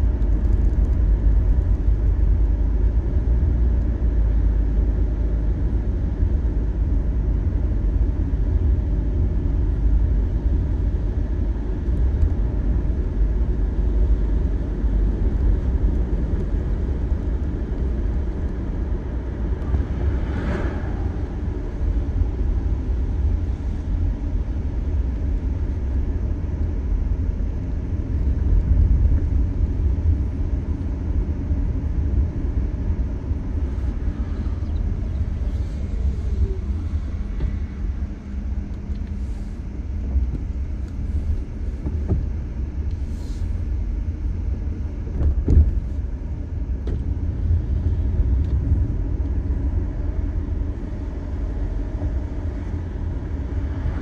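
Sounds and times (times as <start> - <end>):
tyres and engine rumble: 0.0 - 54.0.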